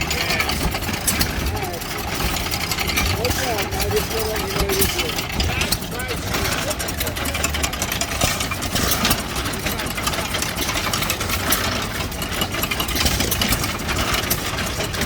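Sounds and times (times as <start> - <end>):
stationary gas engines clattering: 0.0 - 15.0.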